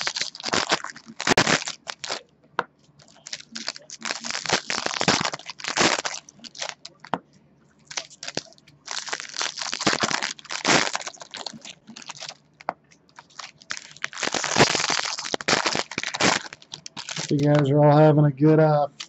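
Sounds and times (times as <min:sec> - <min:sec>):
foil wrappers crinkling: 0:00.0 - 0:02.2, 0:02.9 - 0:07.2, 0:07.8 - 0:17.7.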